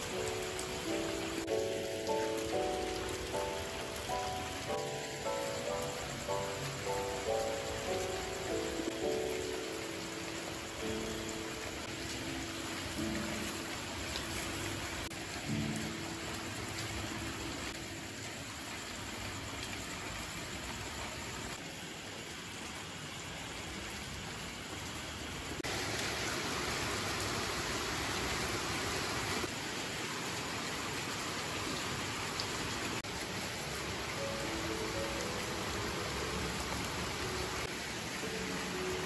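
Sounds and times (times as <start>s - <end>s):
rain hissing: 0.0s - 39.0s.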